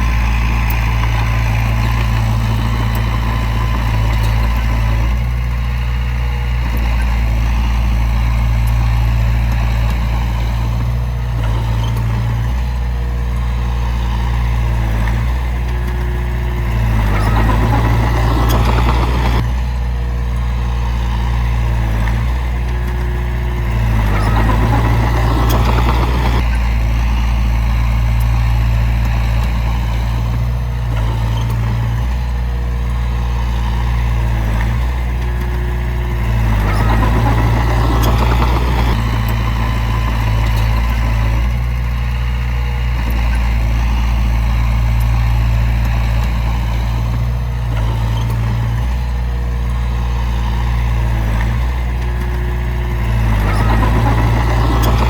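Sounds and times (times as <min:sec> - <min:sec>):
diesel earthmoving machinery running: 0:00.0 - 0:55.0.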